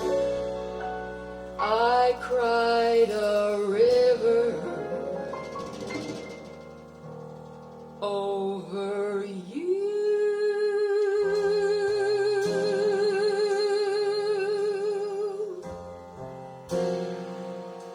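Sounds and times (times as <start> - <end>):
soft accompaniment: 0.0 - 17.9.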